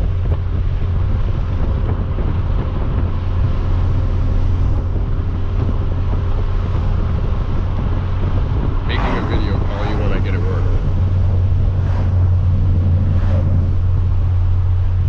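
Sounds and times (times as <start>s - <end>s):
car exhaust droning inside cabin: 0.0s - 15.0s
wind noise: 0.0s - 15.0s.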